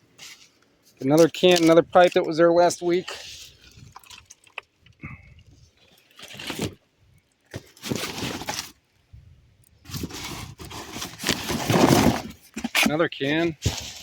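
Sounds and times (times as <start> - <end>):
debris scraping and shifting: 0.2 - 6.8, 7.5 - 8.8, 9.8 - 14.0.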